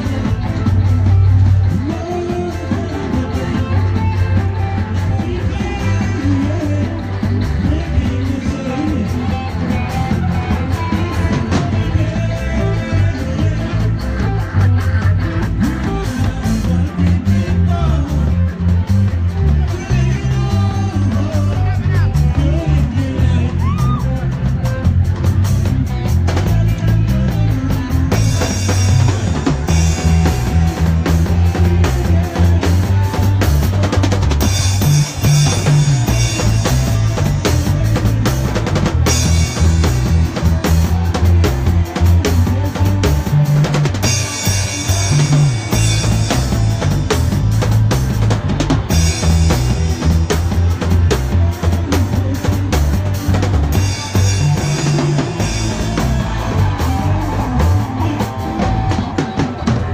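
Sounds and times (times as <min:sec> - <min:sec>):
drum kit playing loudly: 0:00.0 - 0:59.9
heavy bass line: 0:00.0 - 0:59.9.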